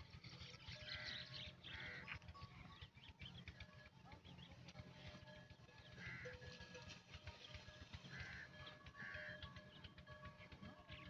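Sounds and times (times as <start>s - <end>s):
herd grazing in dry stubble: 0.0s - 11.0s.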